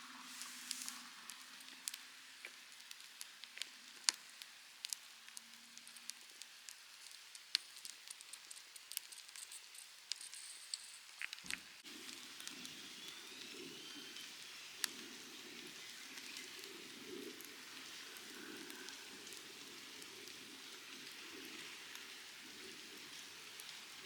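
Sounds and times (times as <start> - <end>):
campfire crackling and popping: 0.1 - 24.0.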